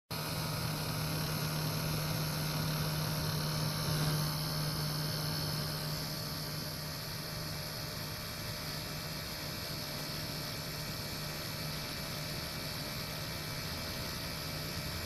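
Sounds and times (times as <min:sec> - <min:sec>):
electric motor humming: 0:00.2 - 0:15.0.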